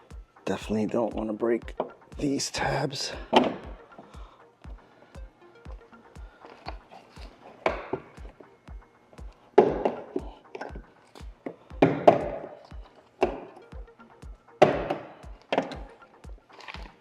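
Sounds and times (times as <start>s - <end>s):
background music with bass beat: 0.0s - 17.0s.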